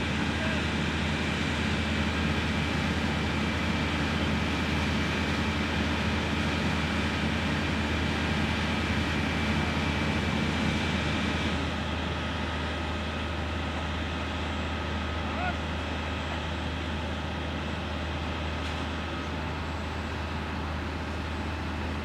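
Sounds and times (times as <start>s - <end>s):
heavy vehicle engines humming: 0.0s - 22.0s.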